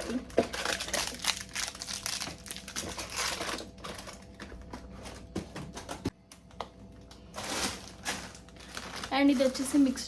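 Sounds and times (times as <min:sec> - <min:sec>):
plastic packets rustling: 0:00.0 - 0:05.3, 0:07.2 - 0:10.0.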